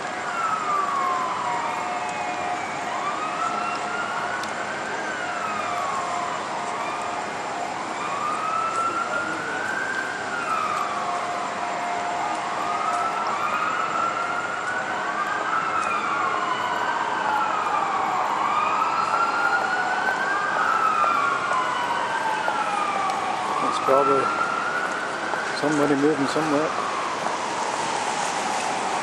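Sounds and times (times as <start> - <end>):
emergency sirens wailing: 0.0 - 29.0.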